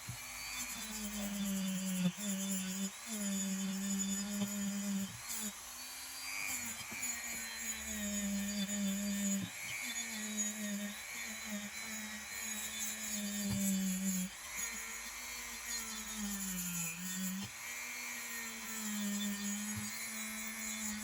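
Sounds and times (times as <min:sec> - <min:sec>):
power tool motor whirring: 0:00.0 - 0:21.0.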